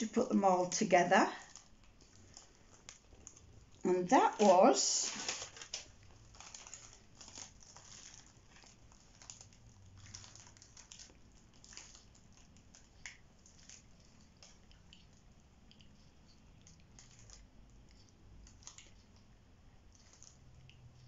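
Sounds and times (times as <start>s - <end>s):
plastic packaging crinkling: 0.0s - 15.2s, 16.6s - 19.3s, 19.9s - 20.5s.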